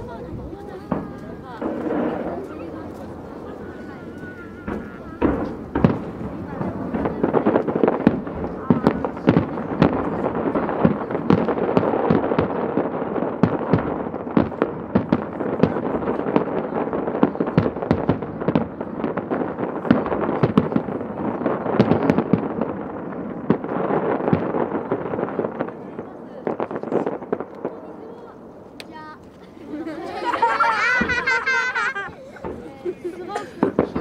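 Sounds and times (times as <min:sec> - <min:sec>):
firework shells bursting: 0:00.6 - 0:30.1, 0:30.8 - 0:32.7.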